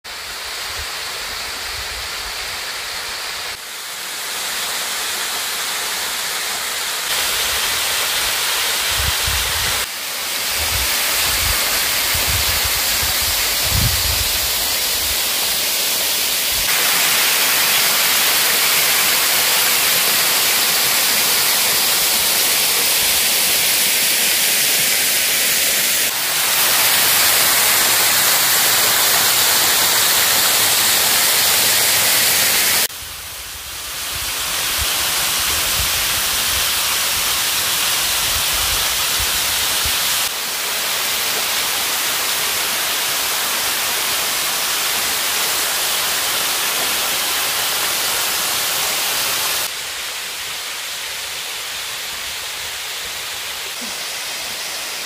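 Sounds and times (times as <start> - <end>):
waterfall rushing: 0.1 - 33.0, 33.6 - 55.0.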